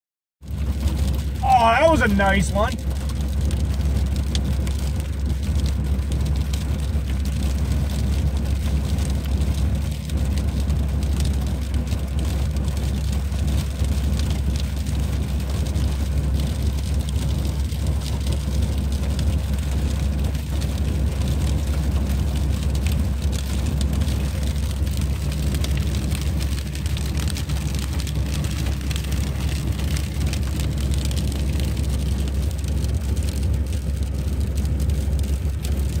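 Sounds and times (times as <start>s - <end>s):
engine idling: 0.4s - 36.0s.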